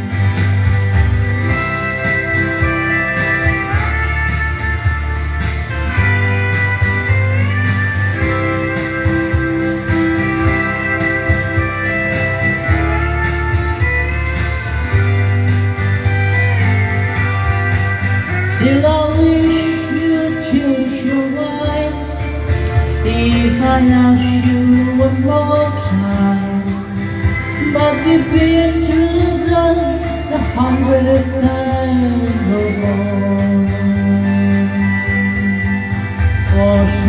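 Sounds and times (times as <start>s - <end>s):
sliding guitar lead: 0.0s - 37.0s
steady bass line: 0.0s - 37.0s.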